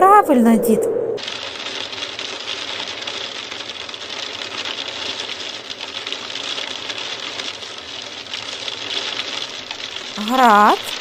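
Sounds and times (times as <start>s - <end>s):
hailstones pattering: 1.2s - 11.0s.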